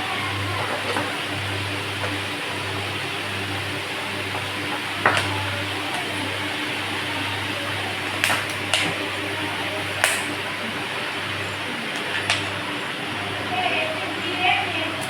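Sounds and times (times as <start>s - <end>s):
mechanical whir with low hum: 0.0s - 15.0s.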